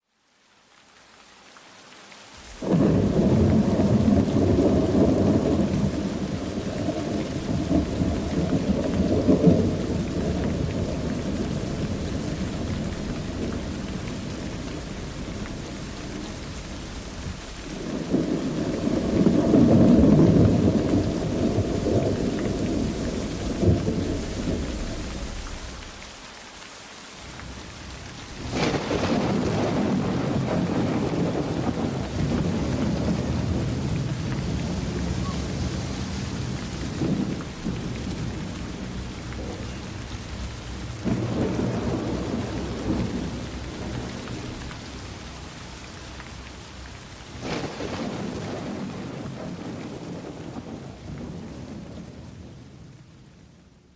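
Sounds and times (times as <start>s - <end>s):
steady rain: 0.0s - 53.9s
thunder rolling: 2.6s - 26.0s, 27.6s - 45.6s, 47.3s - 53.3s.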